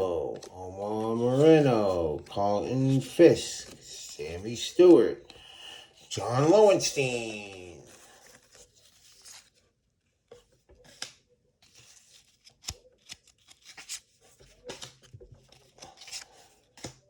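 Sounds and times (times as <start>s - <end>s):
cards rustling and tapping: 0.0s - 9.6s, 10.2s - 17.0s.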